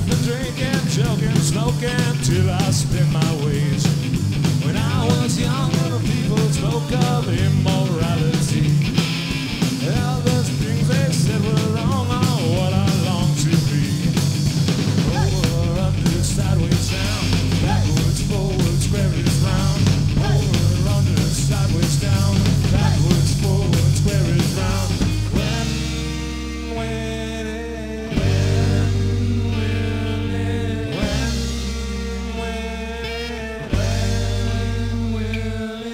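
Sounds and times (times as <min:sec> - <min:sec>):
person singing: 0:00.0 - 0:03.9, 0:04.6 - 0:08.8, 0:09.8 - 0:14.0, 0:15.1 - 0:35.9
drum kit with cymbals: 0:00.0 - 0:27.1, 0:28.1 - 0:32.6, 0:33.7 - 0:35.5
bass guitar: 0:00.0 - 0:35.9
electric guitar: 0:00.0 - 0:35.9.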